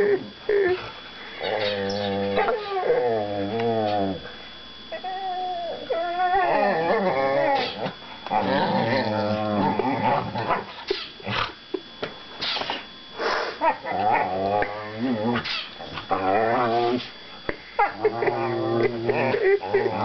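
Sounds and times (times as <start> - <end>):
dogs growling in play: 0.0 - 11.6, 13.6 - 17.2, 17.8 - 20.0.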